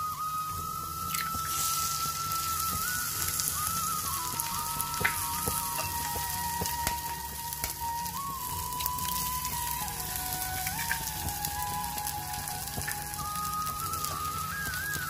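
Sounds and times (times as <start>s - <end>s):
curry sizzling in metal pan: 0.0s - 15.0s
thin wavering high tone: 0.0s - 15.0s.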